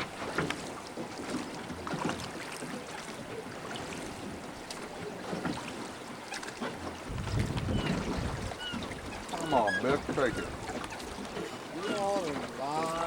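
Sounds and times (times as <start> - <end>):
river water rushing: 0.0 - 13.0
small clicks and splashes: 0.0 - 13.0.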